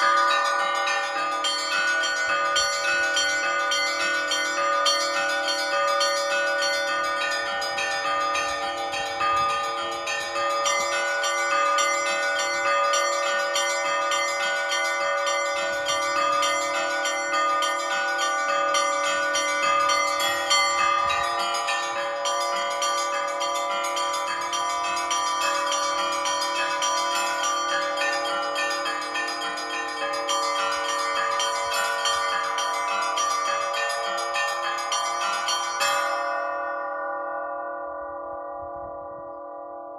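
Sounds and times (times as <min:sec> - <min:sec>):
small bells struck rapidly: 0:00.0 - 0:36.6
large bells ringing: 0:00.0 - 0:39.9.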